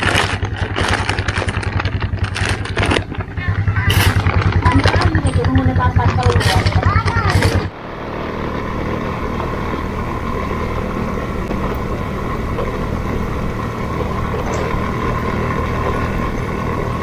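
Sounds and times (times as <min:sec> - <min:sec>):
scooter engine running: 0:00.0 - 0:17.0
wind and road noise: 0:00.0 - 0:17.0.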